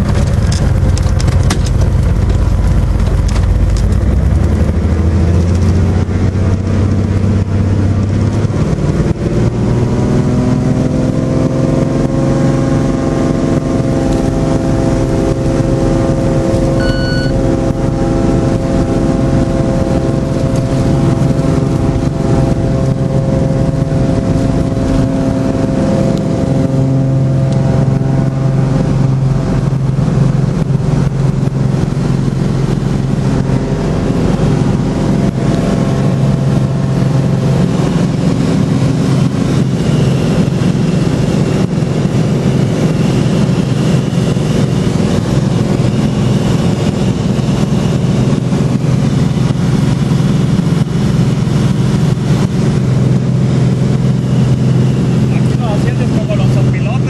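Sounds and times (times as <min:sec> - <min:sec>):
propeller plane engine from cabin: 0:00.0 - 0:57.0.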